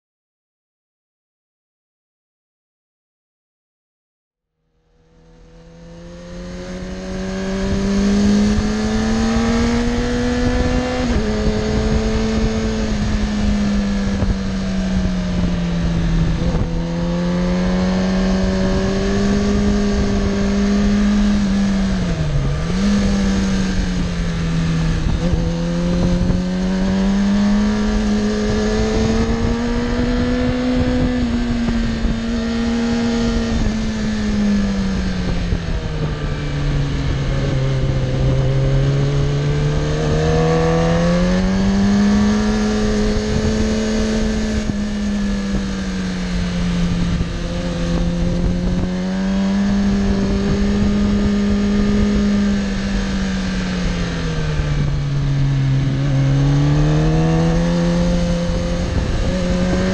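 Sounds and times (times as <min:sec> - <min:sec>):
motorcycle engine at mid revs: 0:04.9 - 0:59.9
wind noise: 0:05.4 - 0:59.9.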